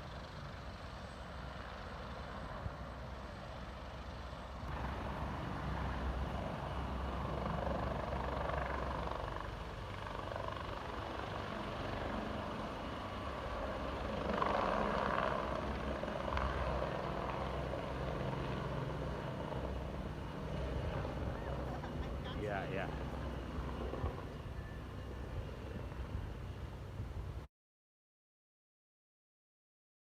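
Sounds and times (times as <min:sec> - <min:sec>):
helicopter rotor rumble: 0:00.0 - 0:27.5.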